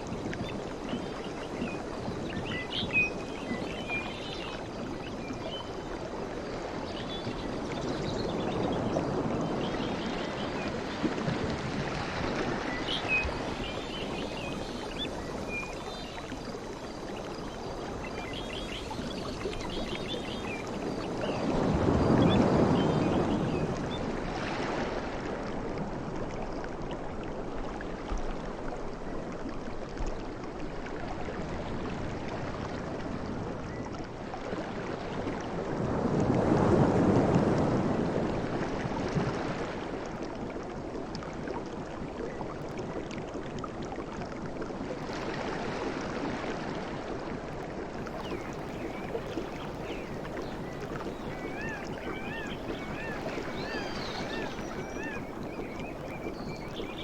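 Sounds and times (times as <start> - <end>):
sea waves breaking on shore: 0.0 - 26.6, 30.5 - 57.0.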